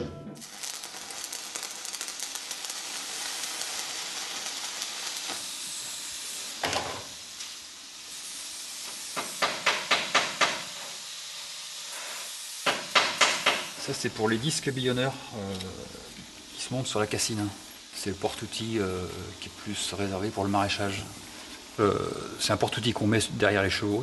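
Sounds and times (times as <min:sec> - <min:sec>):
welding arc crackling hiss: 0:00.4 - 0:24.0.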